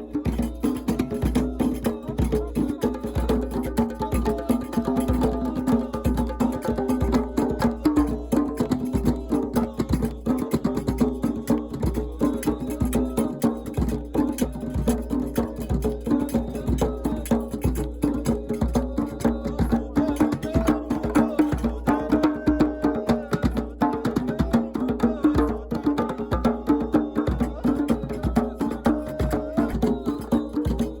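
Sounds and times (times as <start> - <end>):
fast dense percussion: 0.0 - 31.0.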